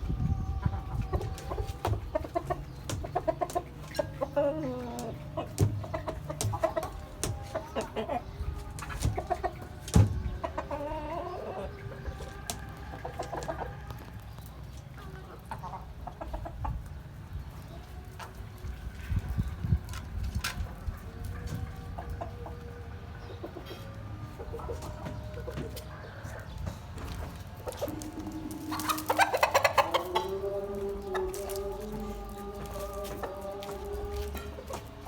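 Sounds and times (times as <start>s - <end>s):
hens clucking: 0.0s - 35.0s.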